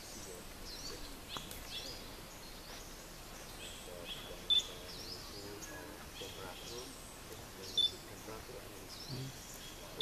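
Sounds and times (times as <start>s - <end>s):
birds chirping and whistling: 0.0s - 10.0s
steady outdoor hiss: 0.0s - 10.0s.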